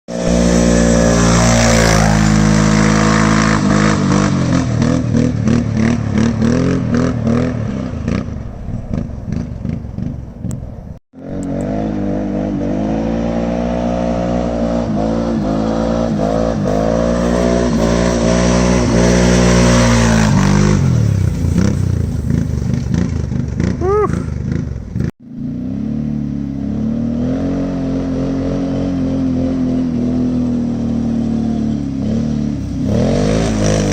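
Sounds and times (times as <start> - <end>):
quad engine revving and crackling: 0.1 - 10.6, 11.2 - 33.9.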